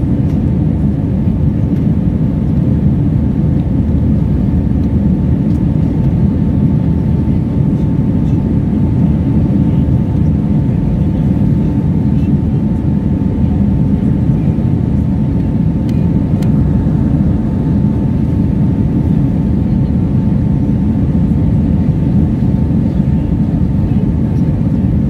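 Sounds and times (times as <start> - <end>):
aircraft engines and rushing air: 0.0 - 25.0.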